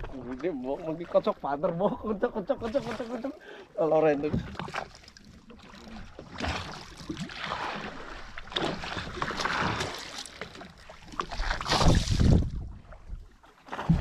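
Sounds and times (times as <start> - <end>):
water splashing against boat hull: 0.0 - 14.0.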